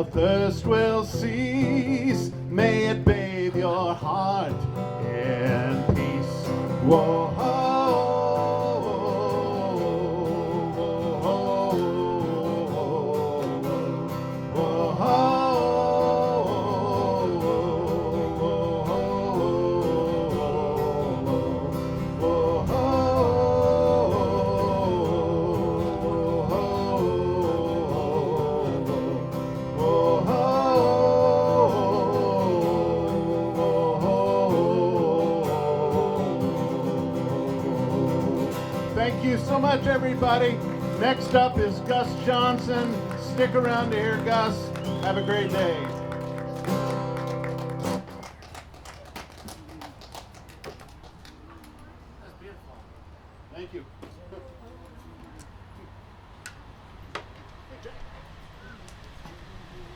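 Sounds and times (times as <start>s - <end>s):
acoustic guitar folk music: 0.0s - 48.4s.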